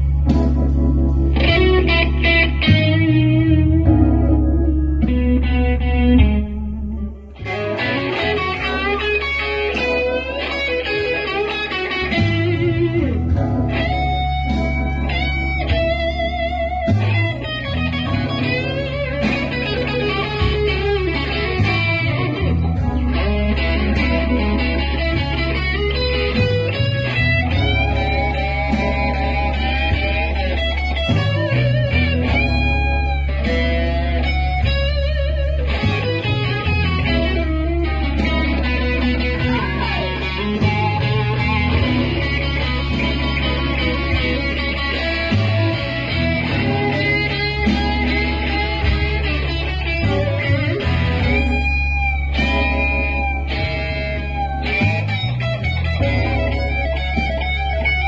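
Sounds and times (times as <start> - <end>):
electric guitar blues solo: 0.0 - 58.0
steady bass line: 0.0 - 58.0.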